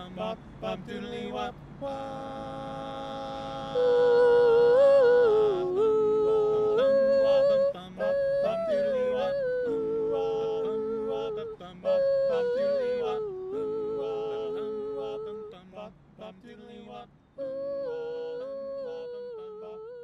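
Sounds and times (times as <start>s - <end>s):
vocal group humming chords: 0.0s - 20.0s.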